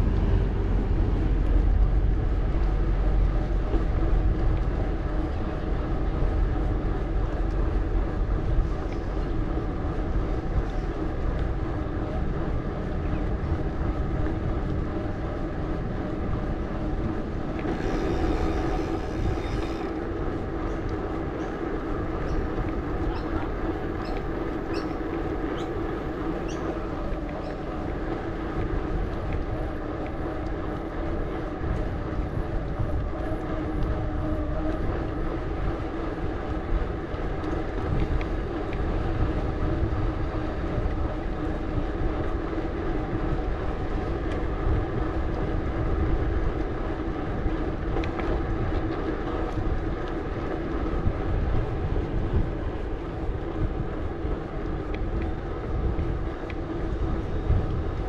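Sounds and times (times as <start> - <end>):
bike tyres rolling on pavement: 0.0 - 58.0
wind rumble on camera: 0.0 - 58.0.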